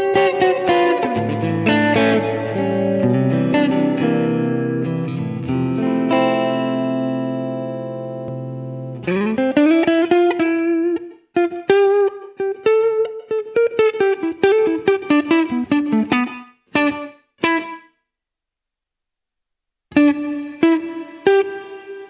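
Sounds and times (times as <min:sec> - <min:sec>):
electric guitar with reverb: 0:00.0 - 0:18.0, 0:19.9 - 0:22.0.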